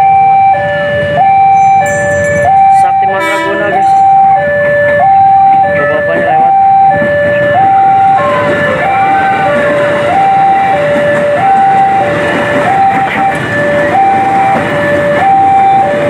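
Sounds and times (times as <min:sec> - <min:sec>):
electric train passing: 0:00.0 - 0:16.0
two-tone crossing alarm: 0:00.0 - 0:16.0.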